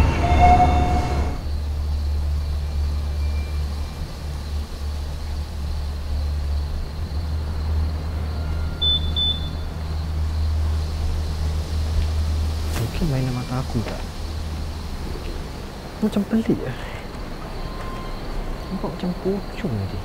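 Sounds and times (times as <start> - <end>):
low rumbling drone: 0.0 - 19.4.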